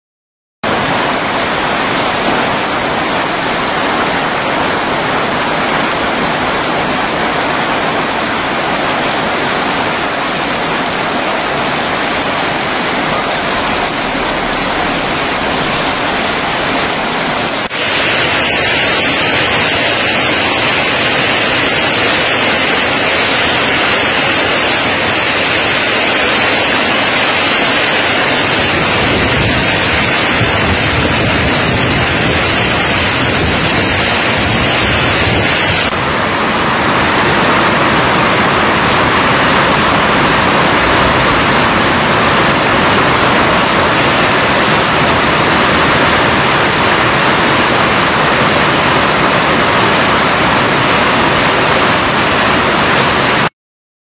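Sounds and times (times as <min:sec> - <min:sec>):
torrential rain pouring: 0:00.6 - 0:53.5.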